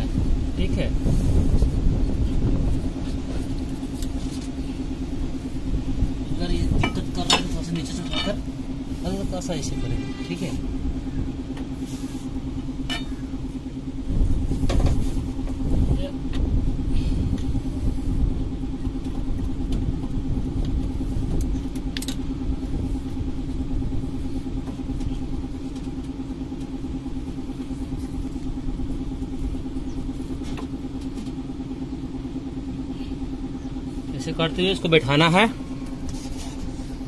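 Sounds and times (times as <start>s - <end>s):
mechanical hum with low rumble: 0.0s - 37.0s.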